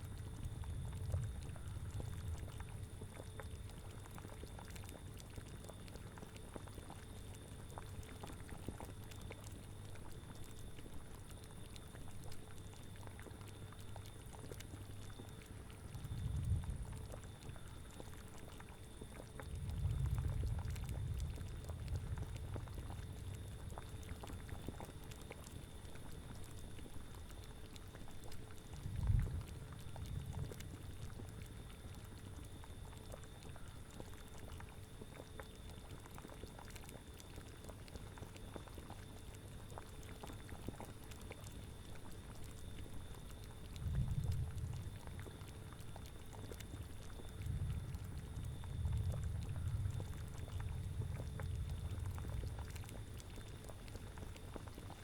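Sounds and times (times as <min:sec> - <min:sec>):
cauldron bubbling: 0:00.0 - 0:09.4, 0:12.8 - 0:55.0.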